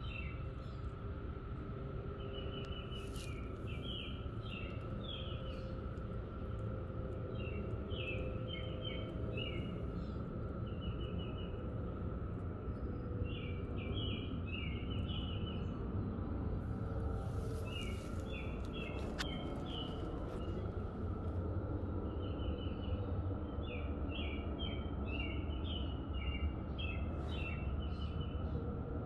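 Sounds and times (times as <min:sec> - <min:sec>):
faint continuous drone: 0:00.0 - 0:29.0
outdoor background noise: 0:00.0 - 0:29.0.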